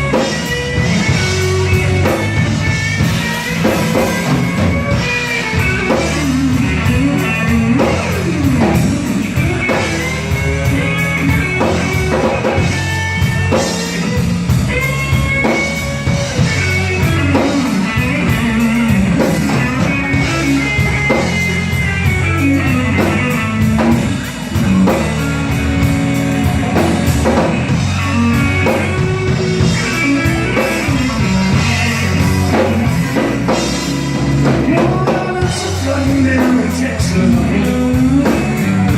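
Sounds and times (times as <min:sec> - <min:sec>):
drum kit: 0:00.0 - 0:38.9
electric bass: 0:00.0 - 0:38.9
electric guitar with string bends: 0:00.0 - 0:38.9.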